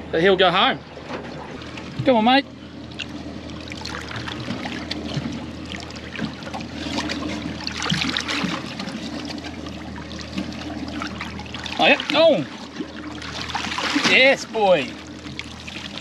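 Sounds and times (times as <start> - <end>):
steady low hum: 0.0 - 16.0
water trickling and splashing: 0.8 - 16.0.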